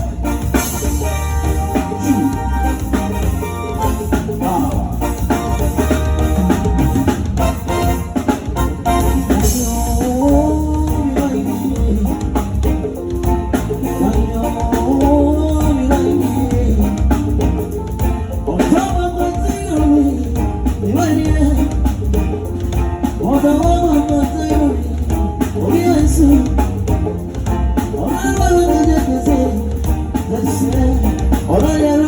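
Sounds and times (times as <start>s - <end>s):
person singing: 0.0s - 7.1s, 8.9s - 22.3s, 23.2s - 32.0s
bass: 0.0s - 32.0s
drum kit: 0.0s - 32.0s
live band playing: 0.0s - 32.0s.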